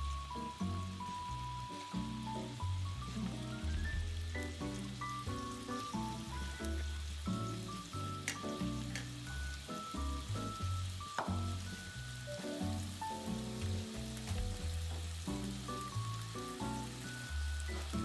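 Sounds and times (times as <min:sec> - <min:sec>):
background music: 0:00.0 - 0:18.0
meat sizzling in oil: 0:00.0 - 0:18.0.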